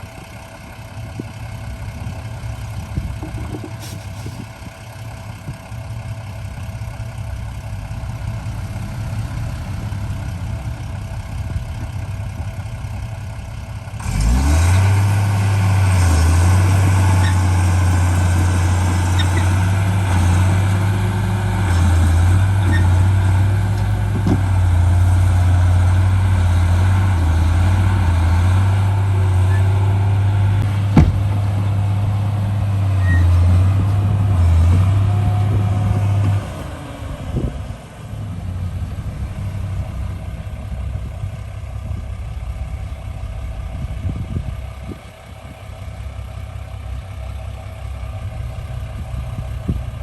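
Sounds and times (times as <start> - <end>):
heavy diesel engine revving: 0.0 - 50.0.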